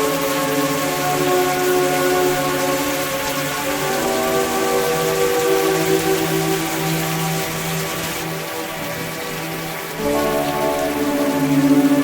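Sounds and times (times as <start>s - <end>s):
soft music of held notes: 0.0s - 12.0s
steady rain: 0.0s - 12.0s.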